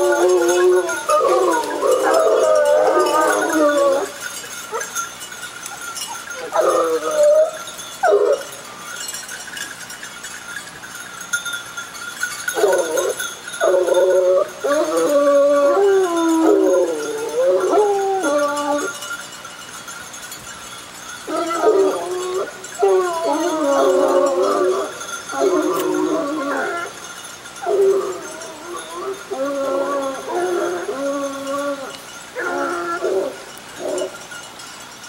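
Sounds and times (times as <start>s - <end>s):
hounds baying: 0.0s - 11.3s, 12.3s - 19.4s, 21.0s - 34.7s.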